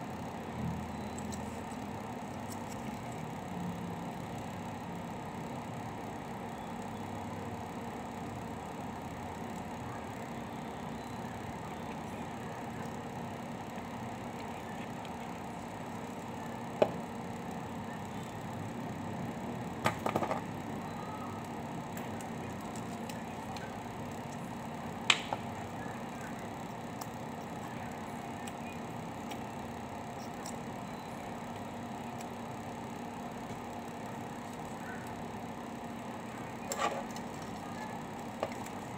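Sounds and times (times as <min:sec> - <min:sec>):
room hum and hiss: 0:00.0 - 0:38.9.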